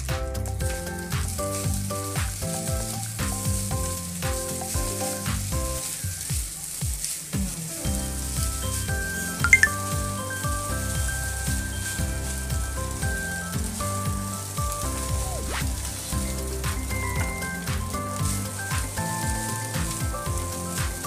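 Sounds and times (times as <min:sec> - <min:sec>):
background music: 0:00.0 - 0:21.0
rice sizzling in a wok: 0:00.0 - 0:21.0.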